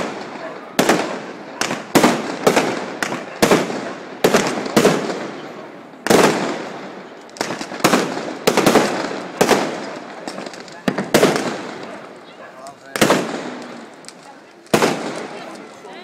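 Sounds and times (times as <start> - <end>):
fireworks bursting with echo: 0.0 - 16.0.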